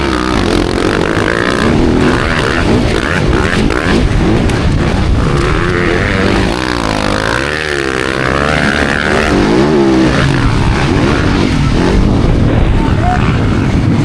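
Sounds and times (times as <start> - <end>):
motocross bike engines racing: 0.0 - 14.0.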